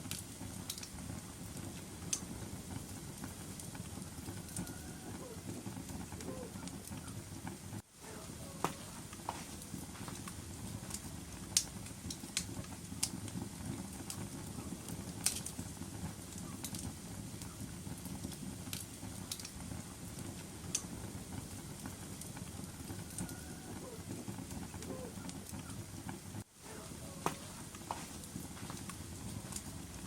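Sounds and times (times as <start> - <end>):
fire flames rumbling: 0.0 - 30.0
wood fire crackling and popping: 0.0 - 30.0.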